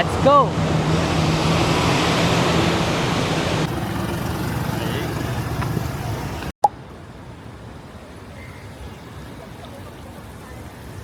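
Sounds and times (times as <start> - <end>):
city traffic noise: 0.0 - 11.0.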